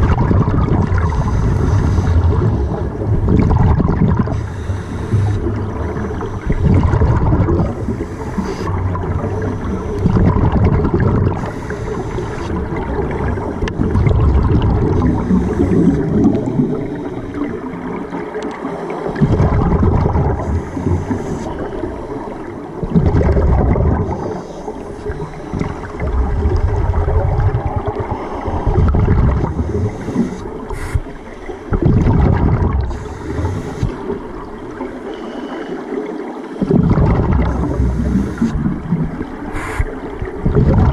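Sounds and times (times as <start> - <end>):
exhaled bubbles underwater: 0.0 - 40.9.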